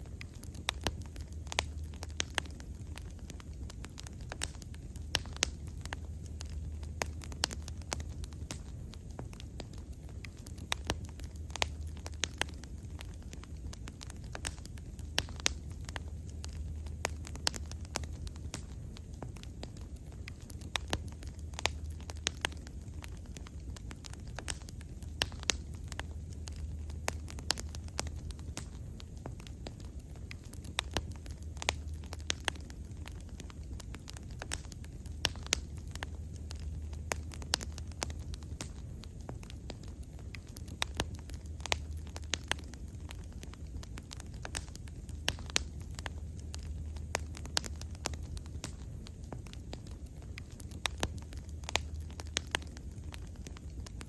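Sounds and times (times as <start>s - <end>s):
bonfire crackling and popping: 0.0s - 54.0s
low steady rumble: 0.0s - 54.0s.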